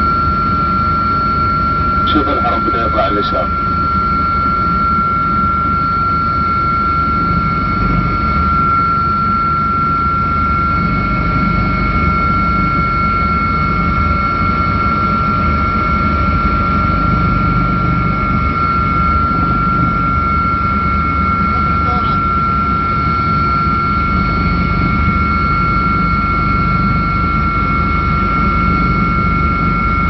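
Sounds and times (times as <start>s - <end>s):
helicopter engine and rotor drone: 0.0s - 30.0s
high-pitched whine: 0.0s - 30.0s.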